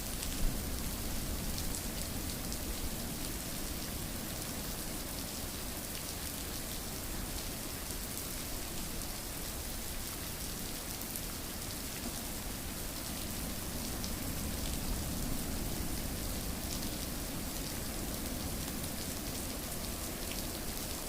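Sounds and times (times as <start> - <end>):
raindrops pattering on a surface: 0.0 - 21.0.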